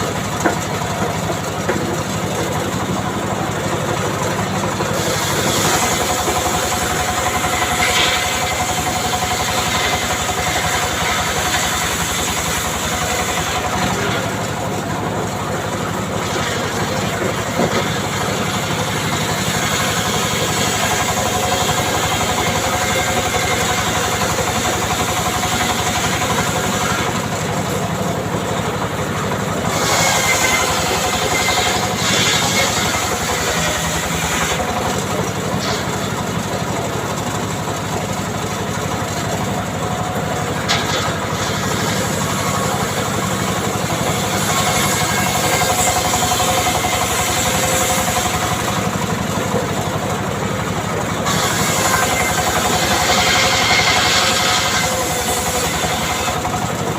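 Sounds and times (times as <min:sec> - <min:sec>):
engine-driven wood saw cutting: 0:00.0 - 0:56.9.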